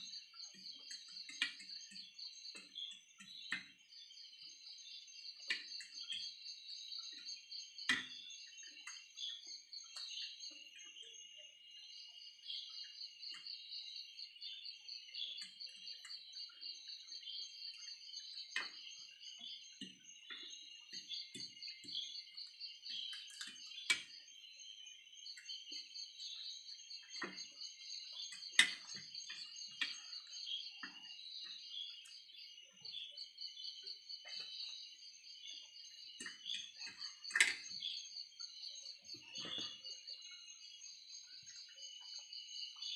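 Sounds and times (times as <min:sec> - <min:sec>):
high-pitched chirping trills: 0:00.0 - 0:42.9.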